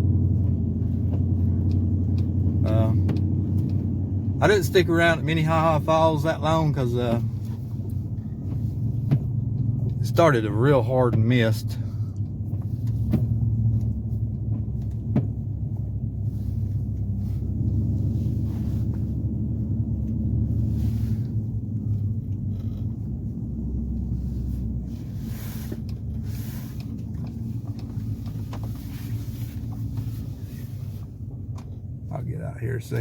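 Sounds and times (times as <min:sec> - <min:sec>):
road noise: 0:00.0 - 0:33.0
vehicle engine rumble: 0:00.0 - 0:33.0.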